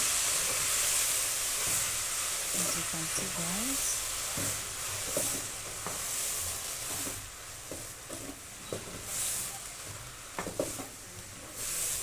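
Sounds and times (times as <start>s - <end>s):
cabbage sizzling in a frying pan: 0.0s - 12.0s.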